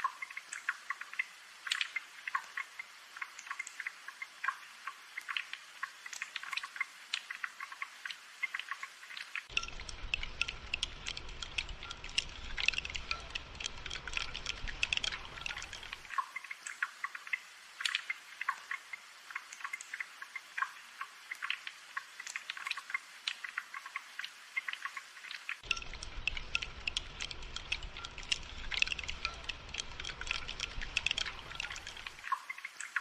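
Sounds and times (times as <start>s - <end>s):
rain dripping and pattering: 0.0s - 33.0s.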